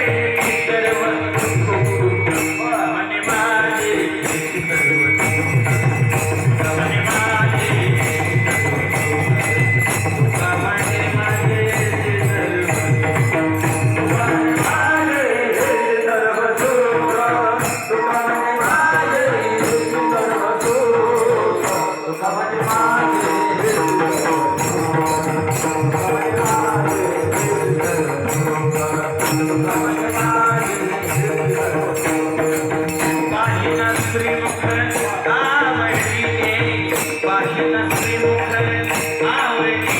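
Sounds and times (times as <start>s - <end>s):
hand cymbals beating: 0.0s - 39.9s
person singing: 0.0s - 39.9s.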